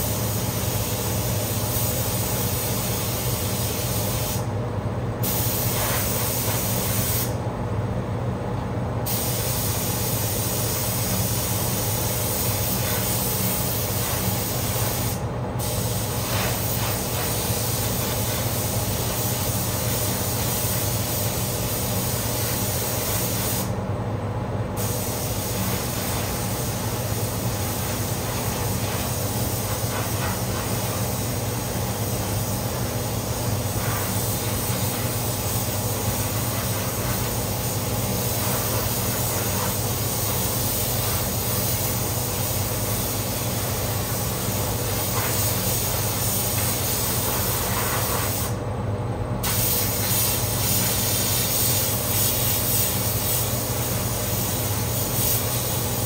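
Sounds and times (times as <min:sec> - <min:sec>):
ventilation fans humming: 0:00.0 - 0:56.0
spray gun hissing: 0:00.3 - 0:04.5, 0:05.2 - 0:07.4, 0:09.1 - 0:23.8, 0:24.8 - 0:48.6, 0:49.4 - 0:56.0.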